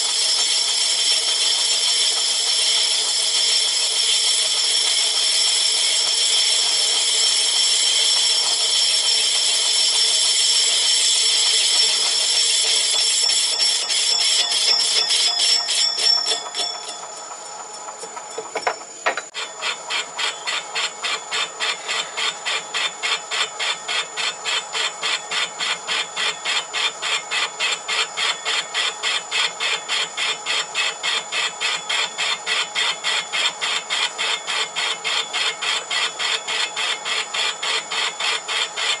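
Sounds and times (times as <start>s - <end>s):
rhythmic lathe scraping cut: 0.0s - 39.0s.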